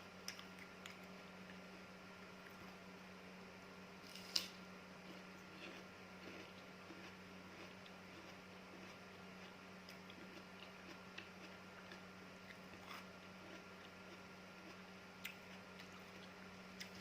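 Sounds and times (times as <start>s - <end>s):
chewing crunchy fruit: 0.1s - 3.0s, 4.0s - 17.0s.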